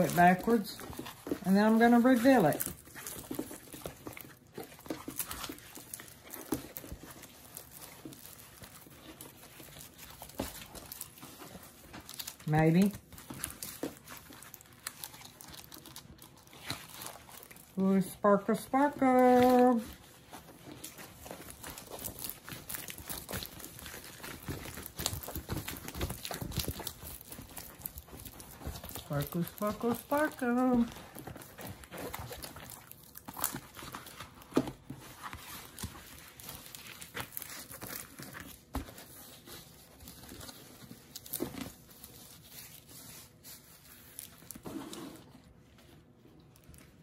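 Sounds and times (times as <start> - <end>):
packaging rustling: 0.0 - 47.0
plastic cover crinkling: 0.0 - 47.0.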